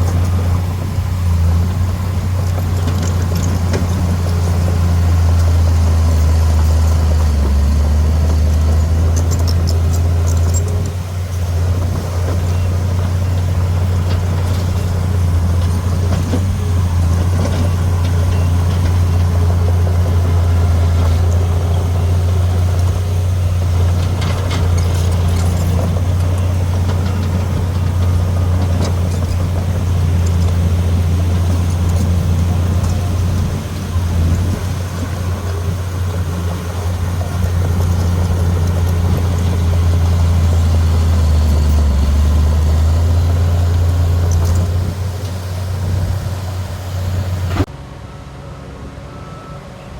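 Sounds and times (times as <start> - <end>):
diesel engine droning: 0.0 - 49.9.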